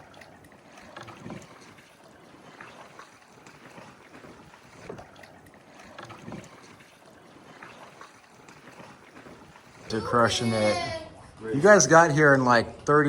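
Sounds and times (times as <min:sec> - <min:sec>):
kayak paddles splashing water: 0:00.0 - 0:10.9.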